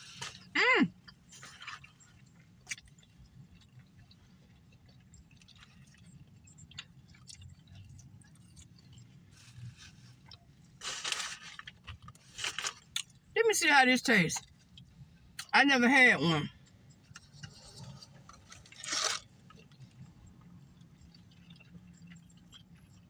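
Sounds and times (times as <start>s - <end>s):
person chewing food: 0.0s - 13.3s, 16.5s - 23.0s.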